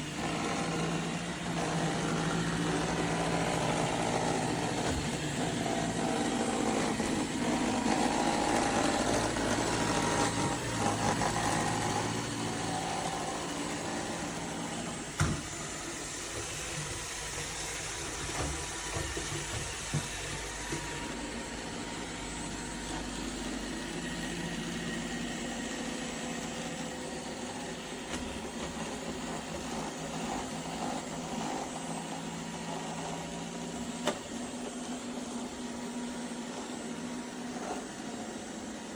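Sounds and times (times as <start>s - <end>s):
robot vacuum motor hum: 0.0s - 38.9s.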